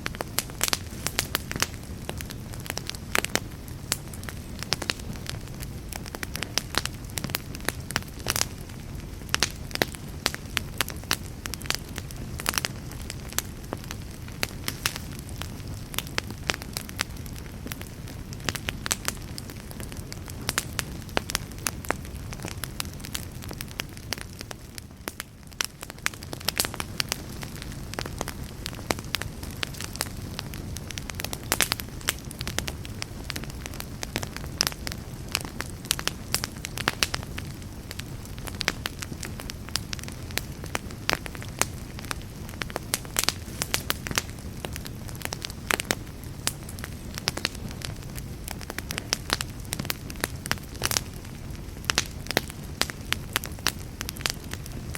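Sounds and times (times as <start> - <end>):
burning wood popping and crackling: 0.0 - 54.9
campfire low rumble: 0.0 - 54.9.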